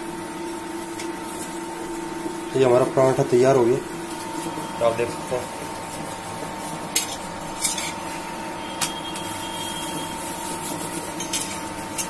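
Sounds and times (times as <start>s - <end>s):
induction cooktop humming and whining: 0.0s - 12.0s.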